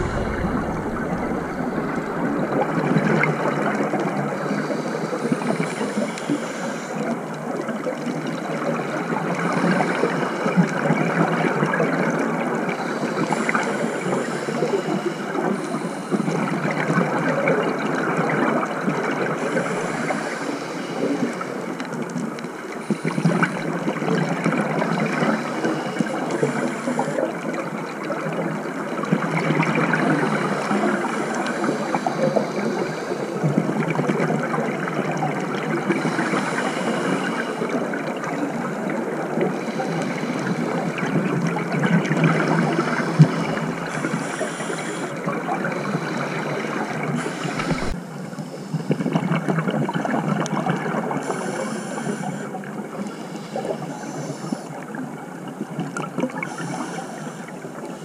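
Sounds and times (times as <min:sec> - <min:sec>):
underwater regulator bubbles gurgling: 0:00.0 - 0:48.0, 0:48.7 - 0:58.0.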